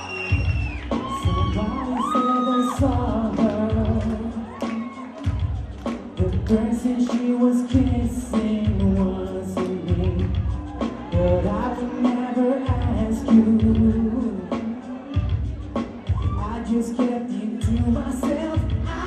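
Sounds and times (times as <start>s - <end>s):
bass-heavy pop beat: 0.0s - 19.0s
man singing pop live: 0.0s - 19.0s.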